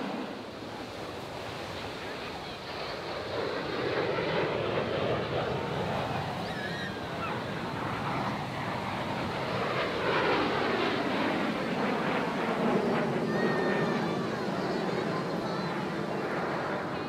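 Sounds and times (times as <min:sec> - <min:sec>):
jet flying overhead: 0:00.0 - 0:17.0.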